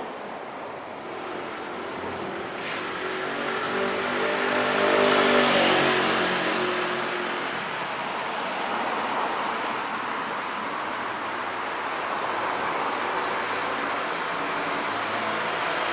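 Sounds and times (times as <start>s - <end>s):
road traffic hiss: 0.0s - 15.9s.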